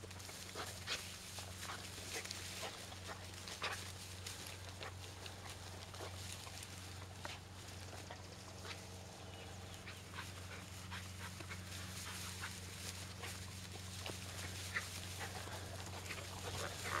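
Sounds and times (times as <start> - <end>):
dog moving through dry grass: 0.0 - 17.0
steady low hum: 0.0 - 17.0.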